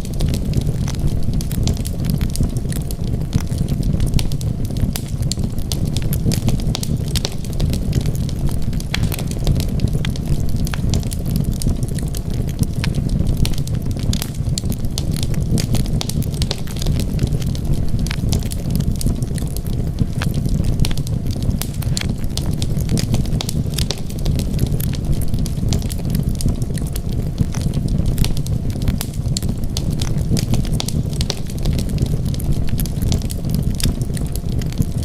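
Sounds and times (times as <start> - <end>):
low rumble of burning: 0.0 - 35.0
wood fire crackling: 0.0 - 35.0.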